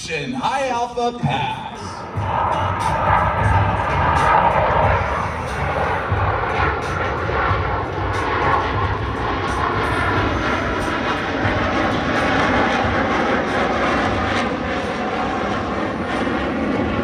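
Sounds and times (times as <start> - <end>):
faint jet whine: 0.0 - 17.0
jet engines rumbling: 0.0 - 17.0.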